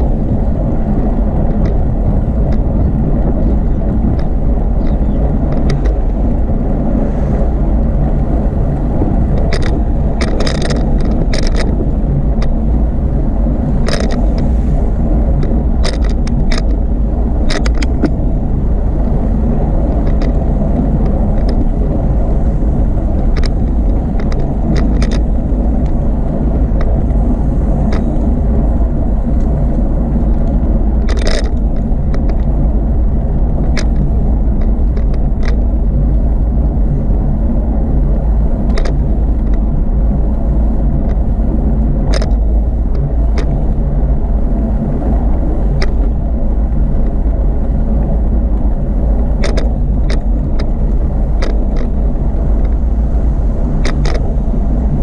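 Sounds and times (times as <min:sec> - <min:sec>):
bicycle clicks and rattles: 0:00.0 - 0:55.0
bicycle tyre noise on path: 0:00.0 - 0:55.0
wind buffeting microphone: 0:00.0 - 0:55.0.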